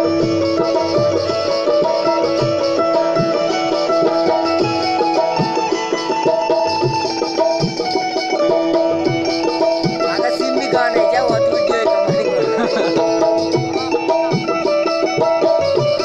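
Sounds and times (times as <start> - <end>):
low drum beat: 0.0 - 16.0
traditional instrumental melody: 0.0 - 16.0.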